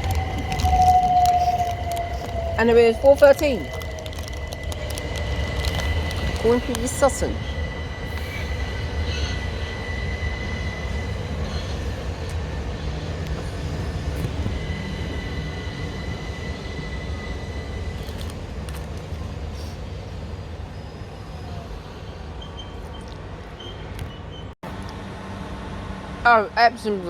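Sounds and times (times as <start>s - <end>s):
high-pitched train whine: 0.0s - 27.0s
train low rumble: 0.0s - 27.0s.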